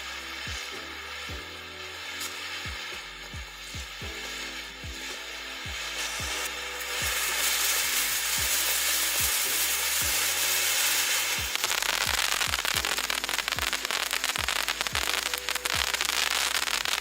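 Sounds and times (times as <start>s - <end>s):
firework fountain hissing and crackling: 0.0s - 17.0s.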